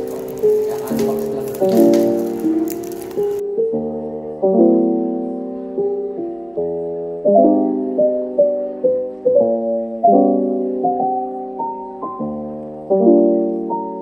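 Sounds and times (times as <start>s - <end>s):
piano chords and melody: 0.0s - 14.0s.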